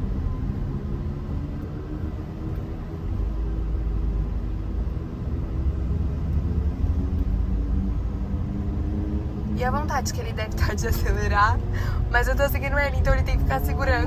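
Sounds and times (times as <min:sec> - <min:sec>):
road noise: 0:00.0 - 0:14.0
vehicle engines rumbling: 0:00.0 - 0:14.0.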